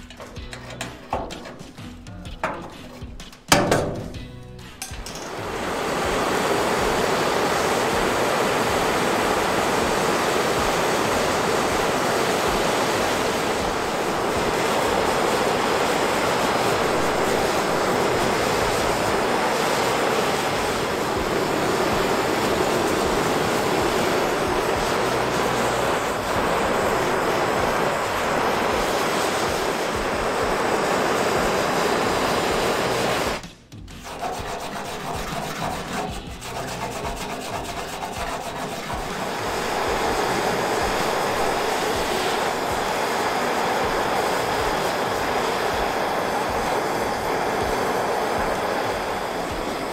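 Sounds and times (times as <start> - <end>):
gas torch flame hissing: 0.0 - 49.9.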